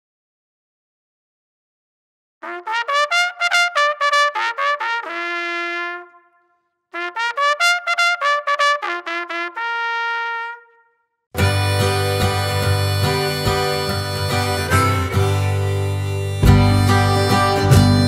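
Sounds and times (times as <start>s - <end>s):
trumpet jingle: 2.4s - 18.0s.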